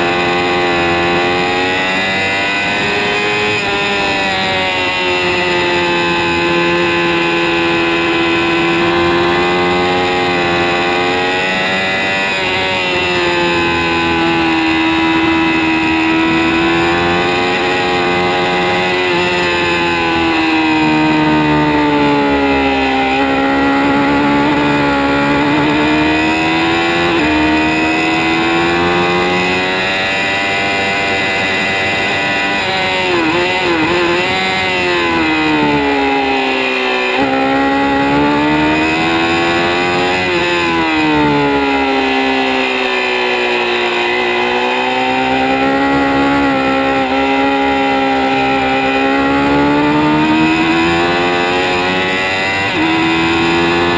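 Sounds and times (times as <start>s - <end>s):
motorcycle engine revving high: 0.0s - 53.9s.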